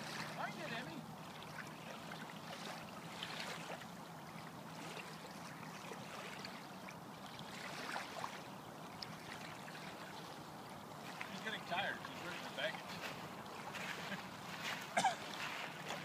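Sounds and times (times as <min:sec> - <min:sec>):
light water splashes: 0:00.0 - 0:16.0
small waves lapping: 0:00.0 - 0:16.0.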